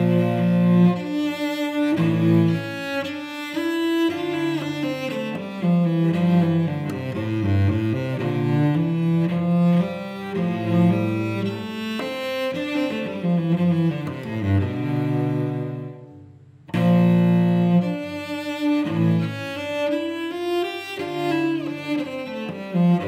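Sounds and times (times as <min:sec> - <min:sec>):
bowed cello: 0:00.0 - 0:23.0.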